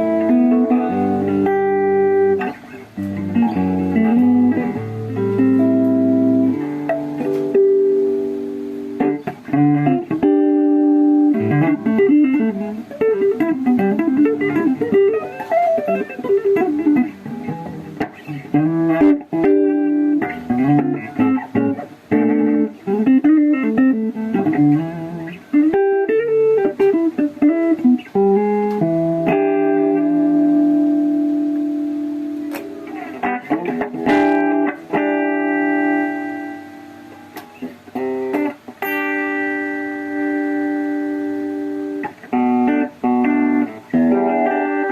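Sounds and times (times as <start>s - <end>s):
electric guitar lead: 0.0s - 44.9s.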